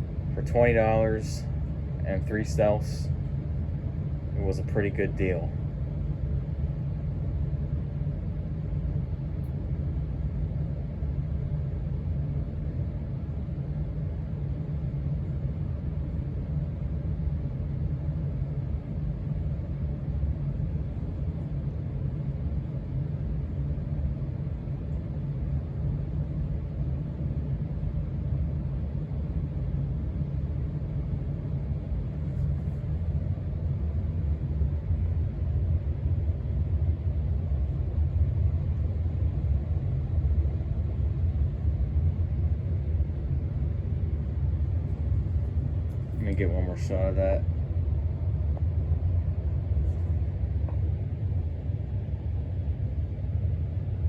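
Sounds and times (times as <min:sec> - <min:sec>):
ceiling fan running: 0:00.0 - 0:54.0.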